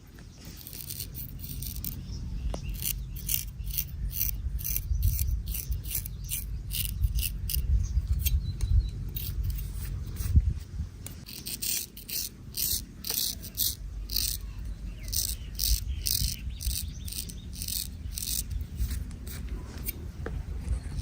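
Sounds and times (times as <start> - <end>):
razor scraping hair and skin: 0.5 - 10.4, 11.1 - 20.2.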